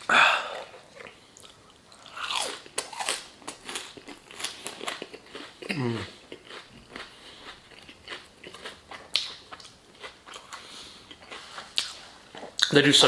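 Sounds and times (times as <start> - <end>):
person chewing and crunching food: 0.0 - 12.8.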